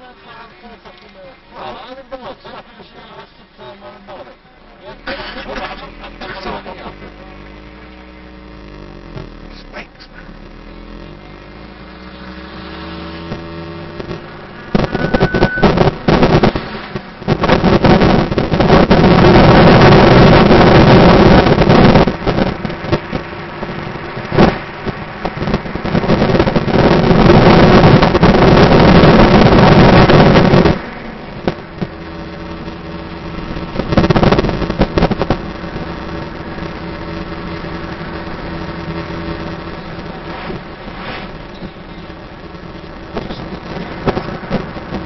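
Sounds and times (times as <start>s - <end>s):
car engine and tyres hum: 0.0s - 45.0s.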